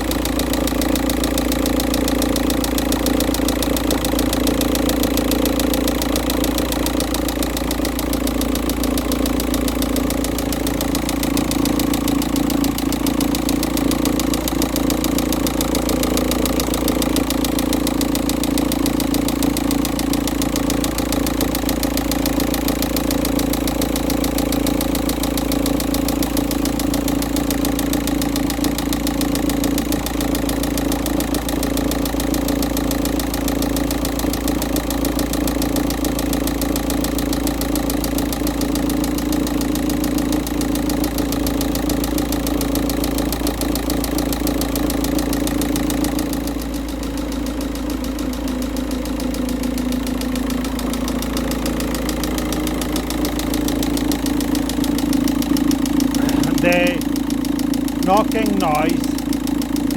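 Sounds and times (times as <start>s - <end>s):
diesel engine idling: 0.0s - 32.5s, 40.9s - 59.9s
rapid engine knocking: 0.0s - 59.9s.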